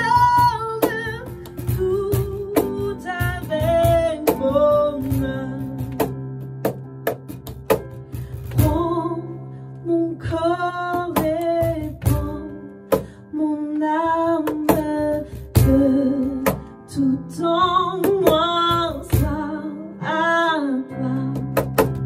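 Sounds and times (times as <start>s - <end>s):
woman singing: 0.0s - 6.2s, 8.5s - 21.8s
piano chords: 0.0s - 22.0s.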